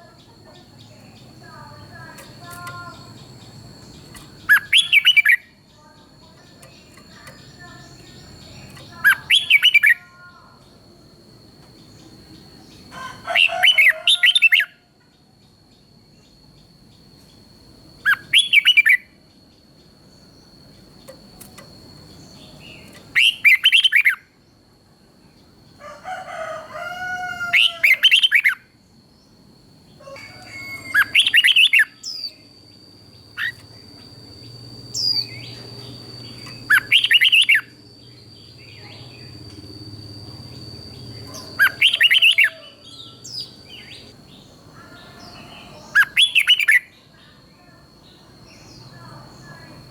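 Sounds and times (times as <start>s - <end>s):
bird singing warbling phrases: 0.0s - 11.0s, 11.7s - 14.8s, 18.0s - 21.2s, 22.1s - 24.3s, 27.4s - 29.4s, 30.0s - 39.6s, 40.4s - 49.9s
faint high whine: 0.0s - 49.9s.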